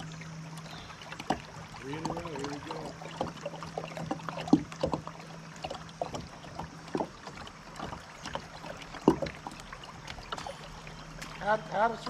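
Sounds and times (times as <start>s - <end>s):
steady water hiss: 0.0s - 12.0s
water splashing against kayak hull: 0.0s - 12.0s.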